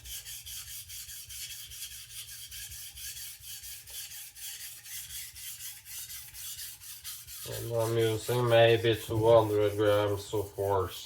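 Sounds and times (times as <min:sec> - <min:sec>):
knife scraping on sharpening stone: 0:00.0 - 0:10.2.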